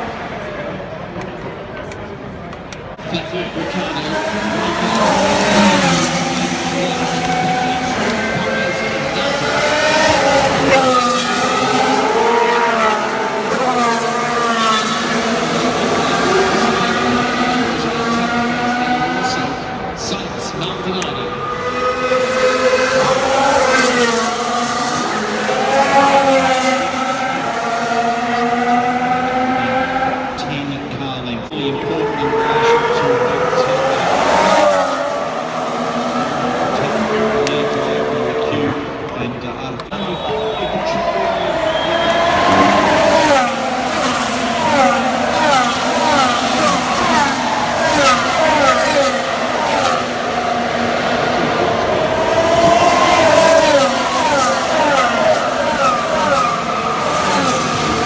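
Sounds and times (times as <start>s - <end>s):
racing car engines at speed: 0.0s - 58.0s.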